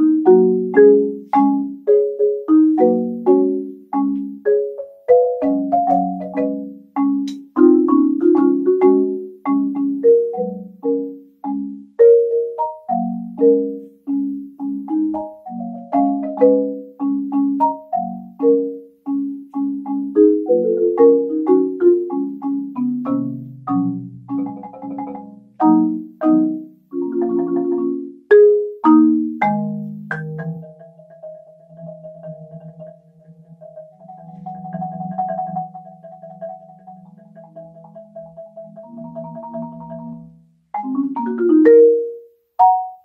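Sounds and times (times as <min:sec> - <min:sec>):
marimba played with mallets: 0:00.0 - 0:43.0.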